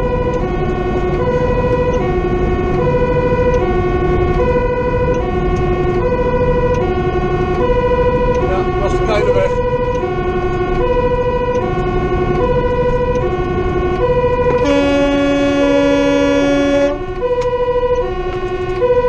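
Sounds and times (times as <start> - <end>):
long horn blast: 0.0 - 19.0
truck engine and road rumble: 0.0 - 19.0
two-tone siren wailing: 0.0 - 19.0.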